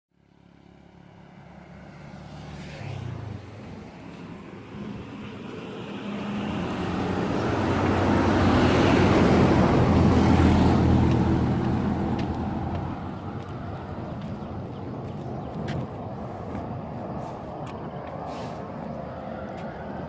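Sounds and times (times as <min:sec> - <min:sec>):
vehicle driving past: 0:00.3 - 0:20.0.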